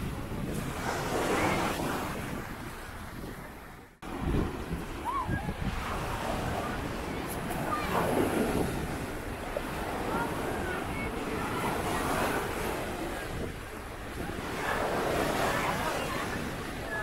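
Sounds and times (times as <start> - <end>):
waves washing onto shore: 0.0 - 17.0
wind buffeting microphone: 0.0 - 17.0.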